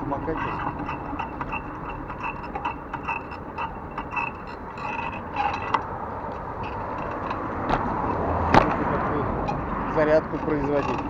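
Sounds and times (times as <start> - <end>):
bicycle rolling and rattling: 0.0 - 11.0
bicycle saddle squeaking: 0.0 - 11.0.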